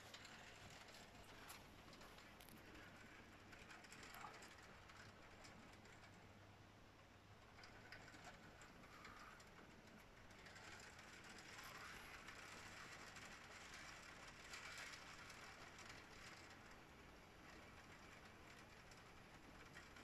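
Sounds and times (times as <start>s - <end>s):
faint steady rain: 0.0s - 20.0s
raindrops ticking on glass: 0.0s - 20.0s.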